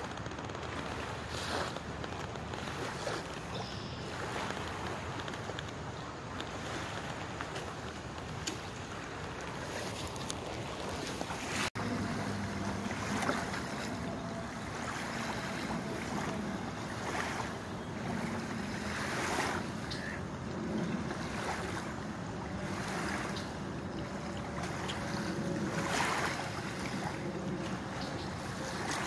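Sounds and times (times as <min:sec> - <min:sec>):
water at shoreline: 0:00.0 - 0:29.0
wind buffeting microphone: 0:00.0 - 0:29.0.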